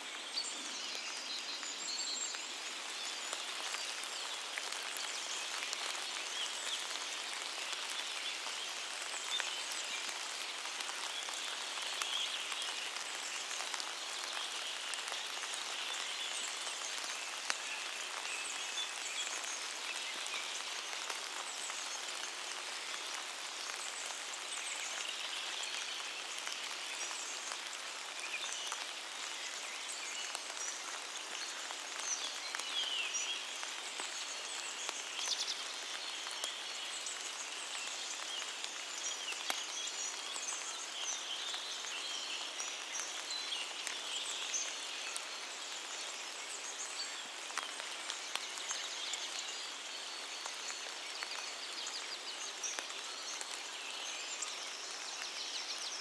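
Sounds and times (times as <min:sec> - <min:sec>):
rain pattering on leaves: 0:00.0 - 0:56.0.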